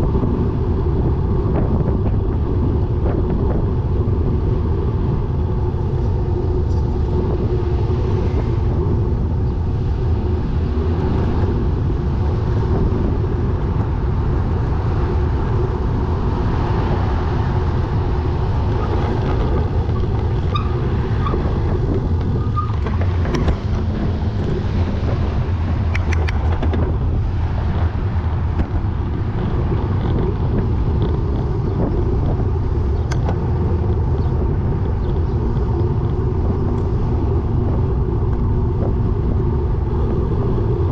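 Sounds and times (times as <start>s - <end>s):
road and wind rumble: 0.0s - 40.9s.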